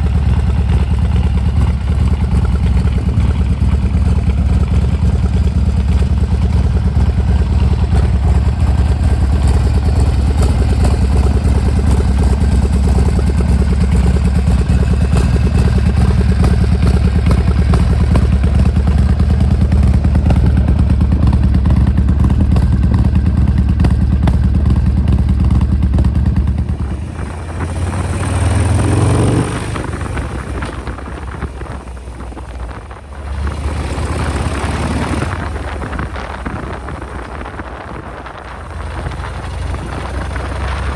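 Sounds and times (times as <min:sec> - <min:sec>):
motorcycle engine idling and revving: 0:00.0 - 0:40.9
wind noise: 0:00.0 - 0:40.9.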